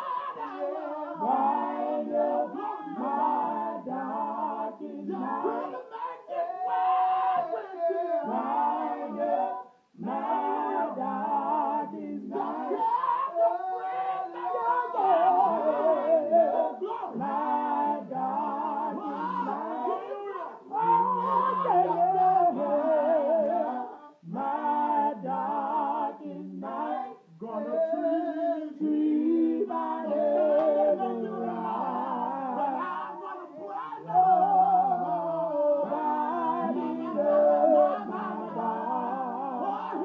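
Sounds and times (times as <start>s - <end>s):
group singing a cappella: 0.0s - 40.0s.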